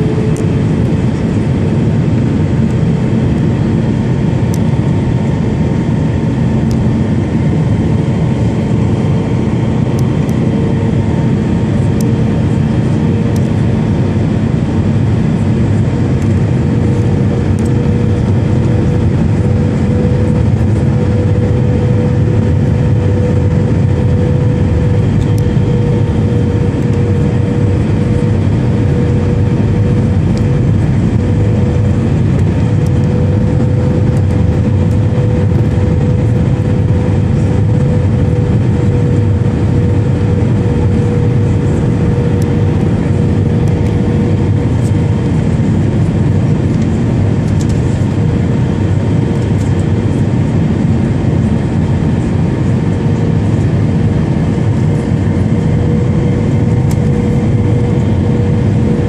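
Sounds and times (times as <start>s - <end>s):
aircraft engine and airflow rumble: 0.0s - 59.0s
humming engine tone: 0.0s - 59.0s.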